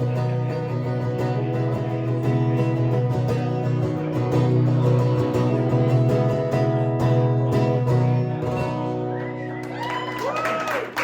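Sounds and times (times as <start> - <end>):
acoustic guitar strumming: 0.0 - 9.7.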